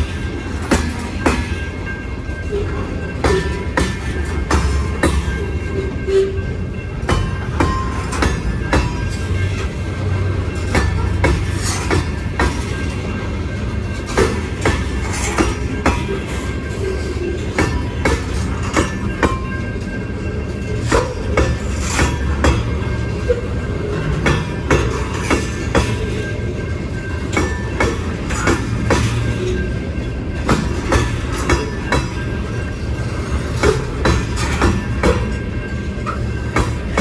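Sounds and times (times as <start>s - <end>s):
steel wheels rumbling on rail: 0.0s - 37.0s
wheels clacking over rail joints: 0.0s - 37.0s.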